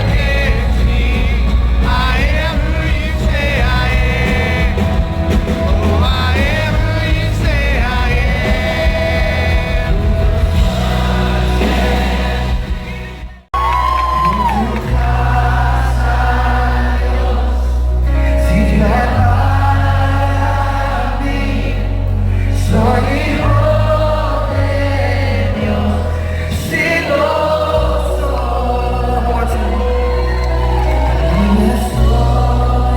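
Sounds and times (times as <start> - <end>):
group of voices singing: 0.0 - 32.9
sustained bass notes: 0.0 - 32.9
worship band playing: 0.0 - 32.9.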